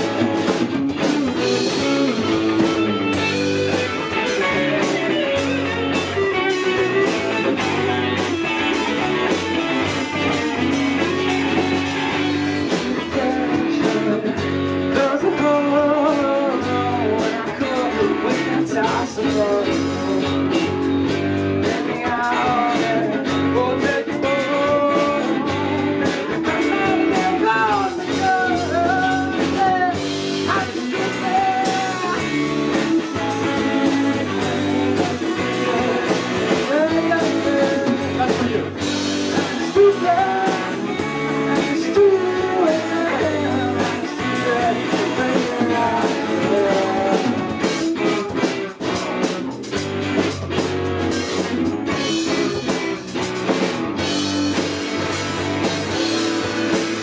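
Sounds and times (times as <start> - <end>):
lead vocal singing: 0.0 - 20.8, 21.5 - 48.4
rock band playing: 0.0 - 57.0.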